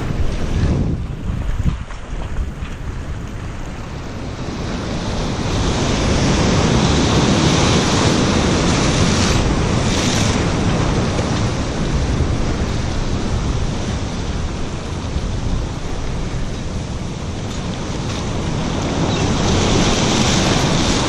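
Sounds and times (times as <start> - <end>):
surf breaking around pilings: 0.0 - 21.0
wind buffeting microphone: 0.0 - 21.0.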